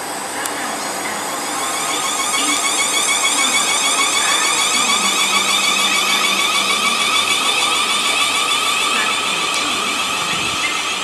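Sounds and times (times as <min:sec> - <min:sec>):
electric train motor whine: 0:00.0 - 0:11.0.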